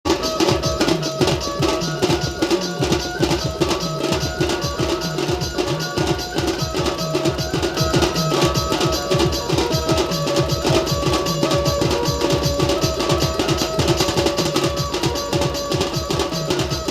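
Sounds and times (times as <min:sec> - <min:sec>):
fast dense drumming: 0:00.1 - 0:16.9.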